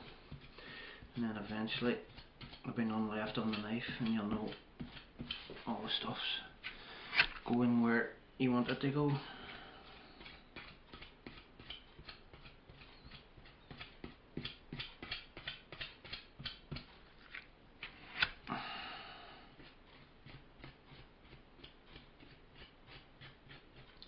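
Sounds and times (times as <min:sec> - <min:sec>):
filling knife scraping and clicking: 0:00.0 - 0:06.4, 0:08.7 - 0:17.4, 0:19.5 - 0:24.0.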